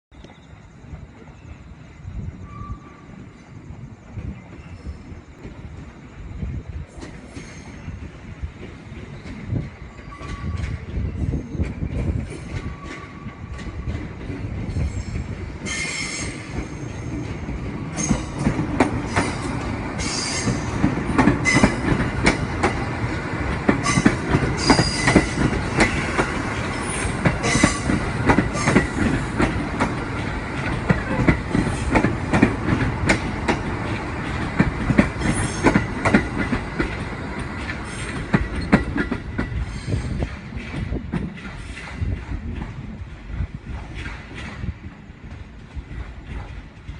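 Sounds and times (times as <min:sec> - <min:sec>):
wheels clacking over rail joints: 0:06.8 - 0:46.9.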